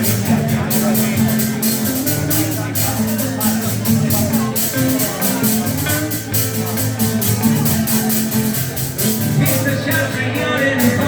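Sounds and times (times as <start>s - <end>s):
music with a percussive beat: 0.0s - 11.0s.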